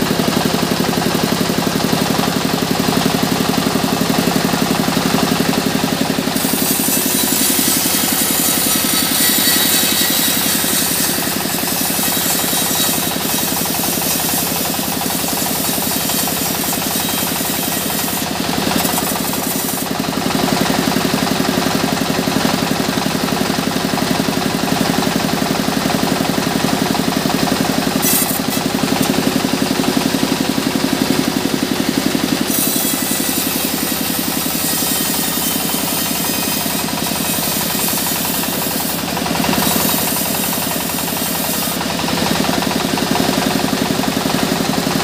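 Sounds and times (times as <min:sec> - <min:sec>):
band saw cutting log: 0:00.0 - 0:45.0.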